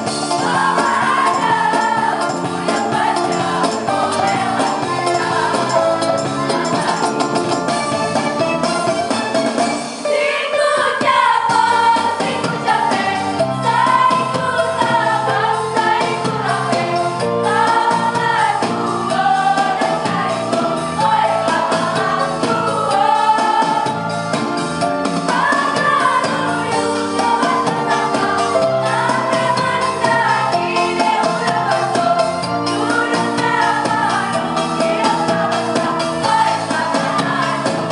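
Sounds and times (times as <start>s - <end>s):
choir singing: 0.0s - 7.8s, 10.0s - 24.4s, 25.1s - 37.9s
musical accompaniment: 0.0s - 37.9s.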